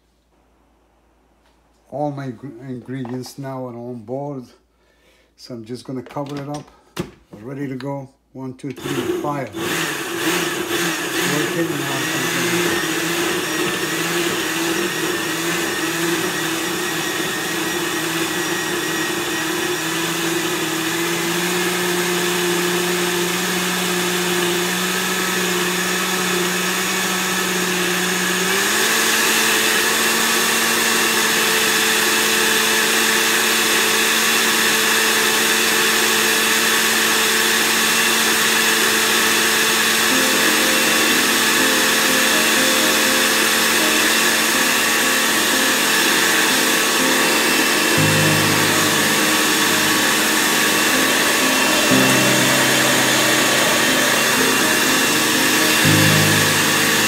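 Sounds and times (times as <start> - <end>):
blender motor whine: 8.7 - 57.0.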